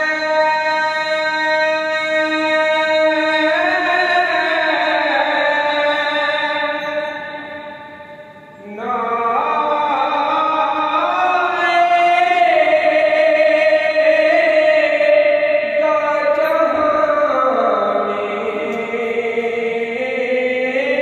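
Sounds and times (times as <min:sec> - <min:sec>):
man chanting recitation: 0:00.0 - 0:07.8, 0:08.6 - 0:21.0.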